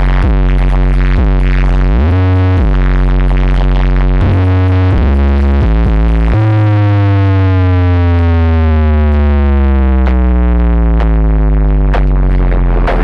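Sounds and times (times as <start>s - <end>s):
bass-heavy synthesizer music: 0.0s - 13.0s.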